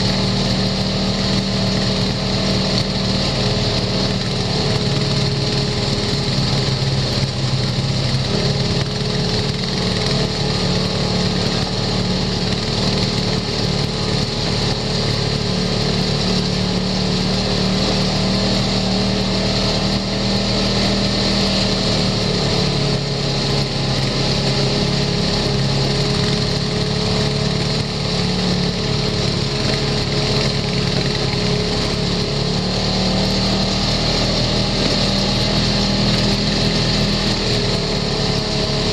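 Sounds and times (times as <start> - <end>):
utility vehicle engine running: 0.0 - 38.9.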